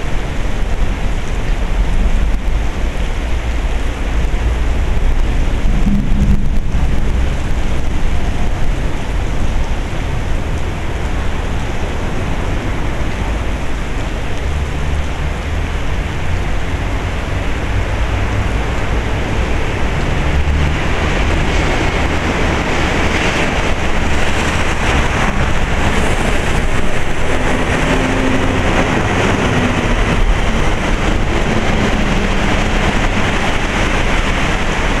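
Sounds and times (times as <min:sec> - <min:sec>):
heavy rain pouring: 0:00.0 - 0:35.0
low wind rumble: 0:00.0 - 0:35.0.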